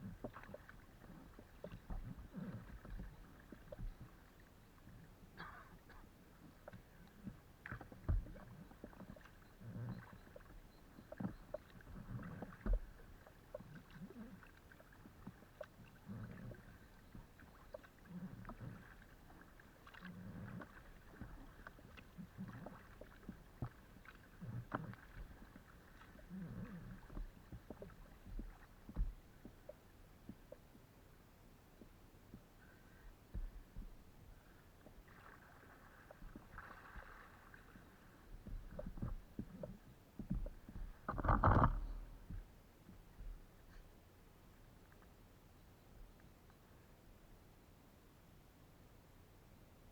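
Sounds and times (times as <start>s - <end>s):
paddle strokes in water: 0.0s - 45.5s.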